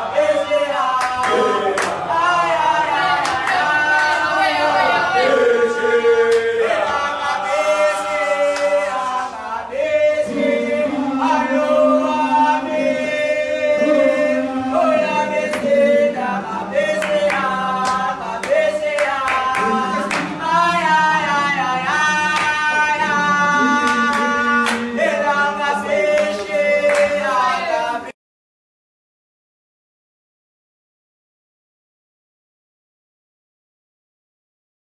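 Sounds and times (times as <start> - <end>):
boys singing in harmony: 0.0 - 28.2.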